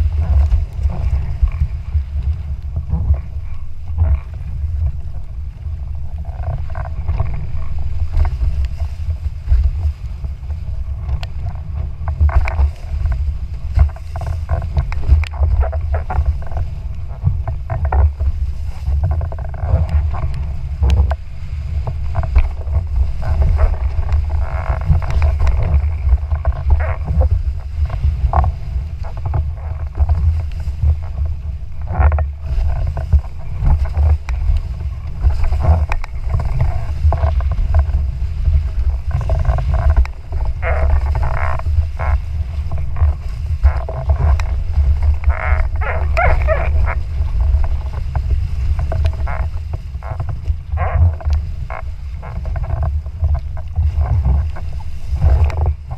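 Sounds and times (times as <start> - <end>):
wind rumble on microphone: 0.0 - 55.9.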